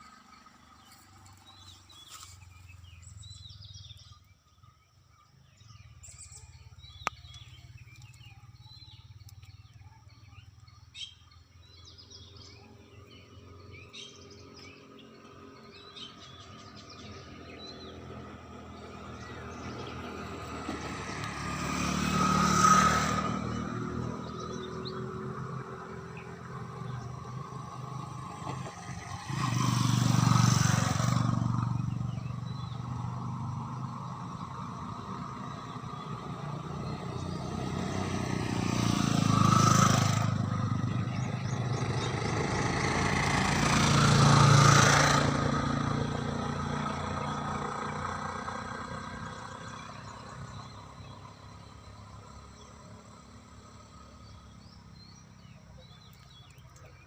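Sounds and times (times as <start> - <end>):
motor vehicles passing by: 0.0 - 57.0.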